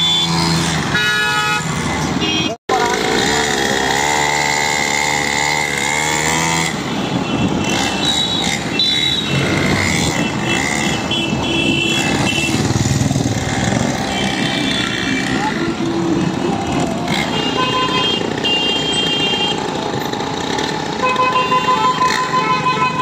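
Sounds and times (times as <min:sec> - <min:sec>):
road noise: 0:00.0 - 0:23.0
small motorbike engines: 0:02.7 - 0:23.0.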